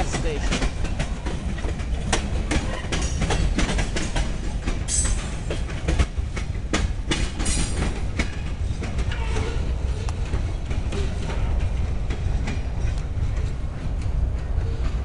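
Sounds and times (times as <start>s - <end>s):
freight train rumbling past: 0.0s - 15.0s
wheels clicking over rail joints: 0.0s - 15.0s.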